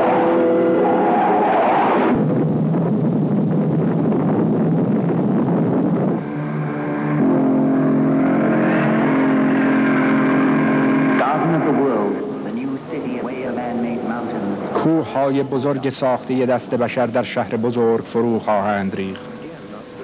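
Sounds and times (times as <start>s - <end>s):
rushing rocket roar: 0.0s - 18.1s
sustained music chords: 0.0s - 20.0s.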